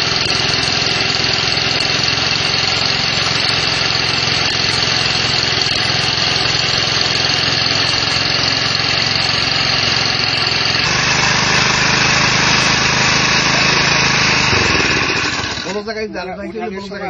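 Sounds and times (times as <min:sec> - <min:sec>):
core cutter motor drilling concrete: 0:00.0 - 0:15.9.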